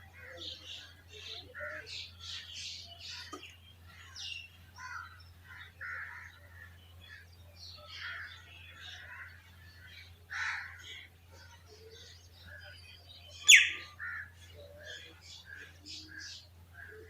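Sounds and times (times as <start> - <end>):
birds chirping and calling: 0.0 - 17.0.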